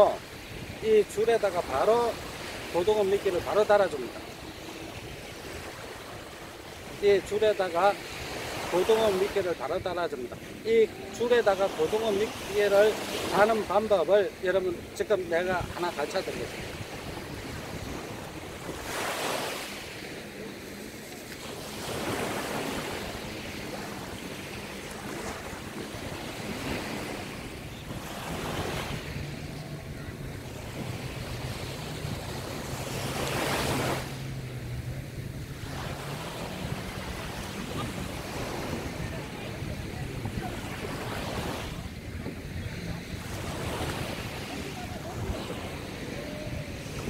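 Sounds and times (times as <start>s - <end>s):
wind buffeting microphone: 0.0s - 12.0s, 14.3s - 47.0s
small waves breaking on sand: 0.0s - 47.0s.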